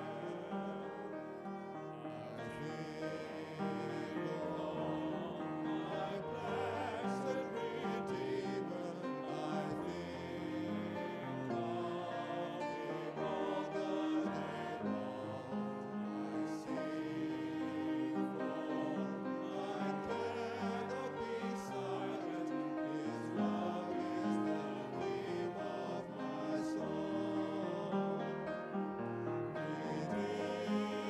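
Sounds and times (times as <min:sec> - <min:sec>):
men singing a hymn: 0:00.0 - 0:31.0
musical accompaniment: 0:00.0 - 0:31.0.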